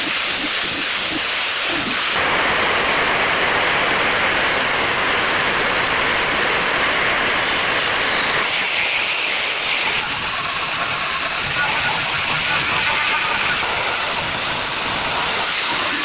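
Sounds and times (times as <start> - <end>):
loud steady hiss: 0.0 - 16.0.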